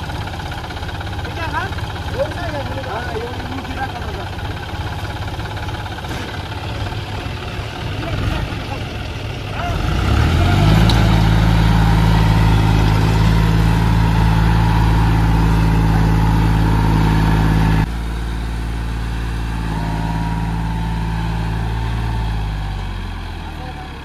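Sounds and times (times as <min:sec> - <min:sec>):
tractor diesel engine straining: 0:00.0 - 0:24.0.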